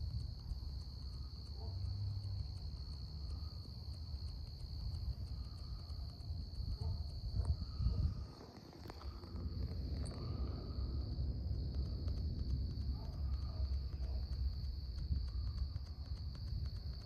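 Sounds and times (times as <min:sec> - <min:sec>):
low rumble: 0:00.0 - 0:17.0
night insects chorus: 0:00.0 - 0:17.0.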